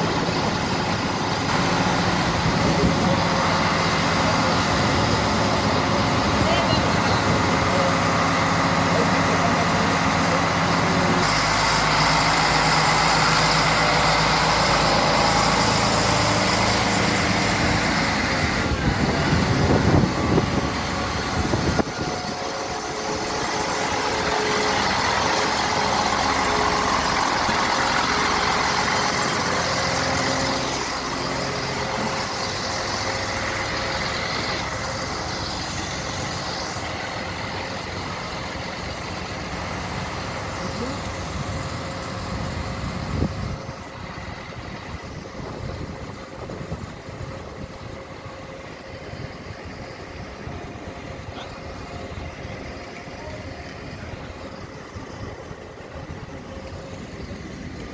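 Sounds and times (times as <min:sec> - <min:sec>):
train engine drone: 0:00.0 - 0:57.9
train wheels rumbling: 0:00.0 - 0:57.9.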